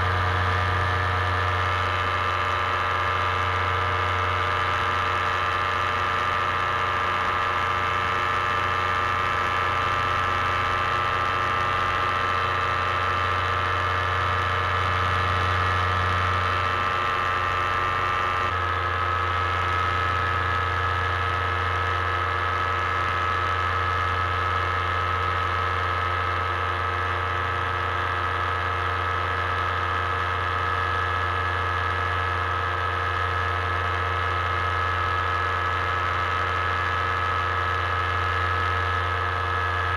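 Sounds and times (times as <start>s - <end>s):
paramotor engine droning: 0.0s - 39.9s.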